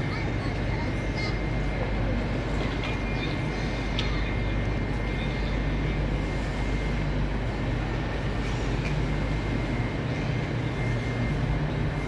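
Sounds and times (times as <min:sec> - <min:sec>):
electric train humming: 0:00.0 - 0:12.0
station hubbub: 0:00.0 - 0:12.0.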